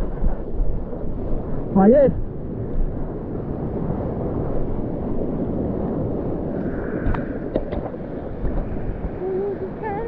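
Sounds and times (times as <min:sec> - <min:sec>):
foaming water rushing: 0:00.0 - 0:10.0
wind buffeting microphone: 0:00.0 - 0:10.0.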